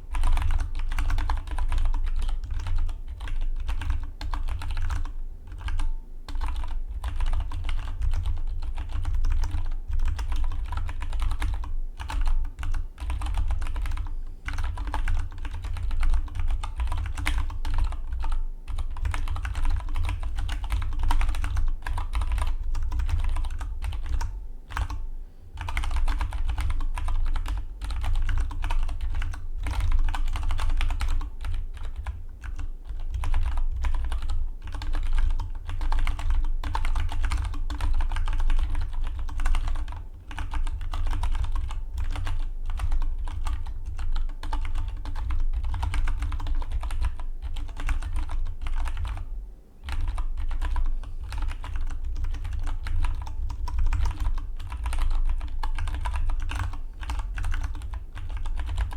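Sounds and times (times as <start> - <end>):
fast typing on mechanical keyboard: 0.1 - 25.0, 25.6 - 58.9.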